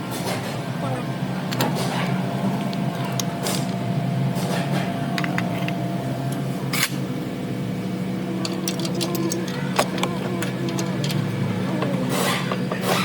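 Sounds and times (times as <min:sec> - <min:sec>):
vehicle running drone: 0:00.0 - 0:13.0.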